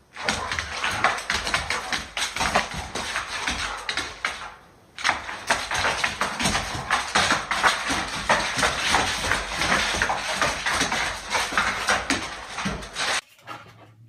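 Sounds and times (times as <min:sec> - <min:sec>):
animals scuffling: 0:00.0 - 0:13.6.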